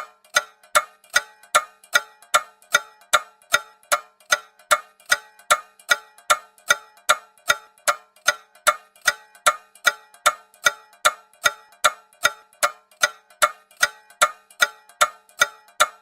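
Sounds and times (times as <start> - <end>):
clock ticking: 0.0 - 16.0.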